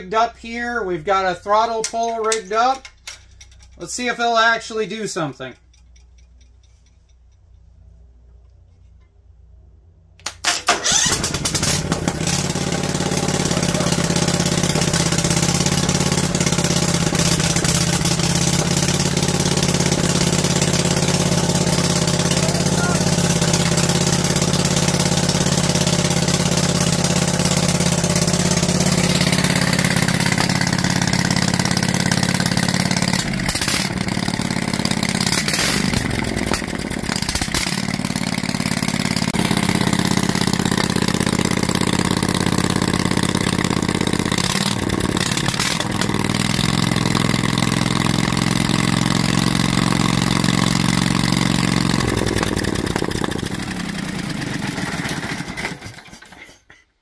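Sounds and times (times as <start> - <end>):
engine running: 10.2 - 56.4.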